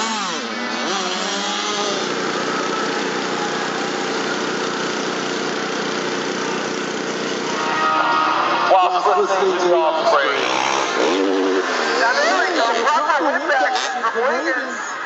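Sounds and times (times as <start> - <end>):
motocross bike engines running hard: 0.0 - 14.4.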